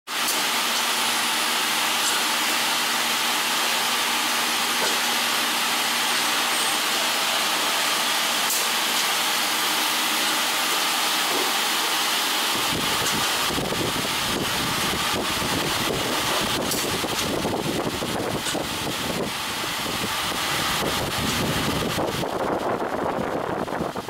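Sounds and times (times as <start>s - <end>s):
machine hissing: 0.1s - 23.0s.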